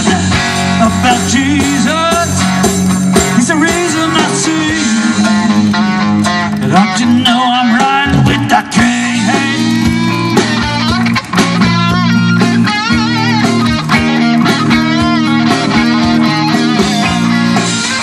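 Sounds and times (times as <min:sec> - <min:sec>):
blues-rock band playing: 0:00.0 - 0:18.0
electric guitar lead with bent notes: 0:00.0 - 0:18.0.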